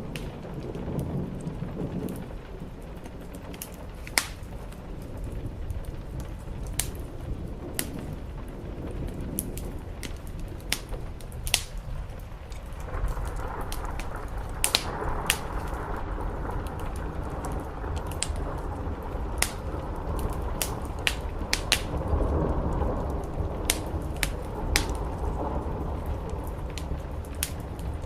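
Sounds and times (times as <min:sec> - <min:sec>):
rain on a roof: 0:00.0 - 0:28.0
wood fire crackling: 0:00.0 - 0:28.0.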